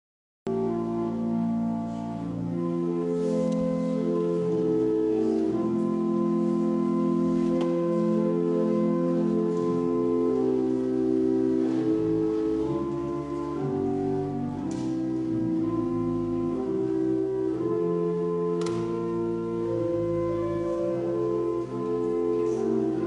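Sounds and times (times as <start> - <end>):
organ playing slow chords: 0.5 - 23.0.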